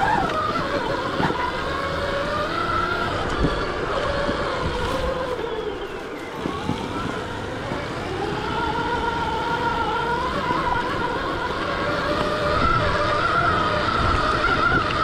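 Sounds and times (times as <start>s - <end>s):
electric dirt bike motor whining: 0.0s - 15.0s
rough noisy rumble: 0.0s - 15.0s.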